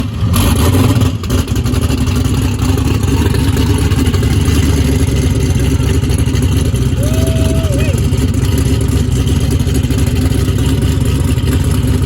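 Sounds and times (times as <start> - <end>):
loud engine running: 0.0 - 12.0.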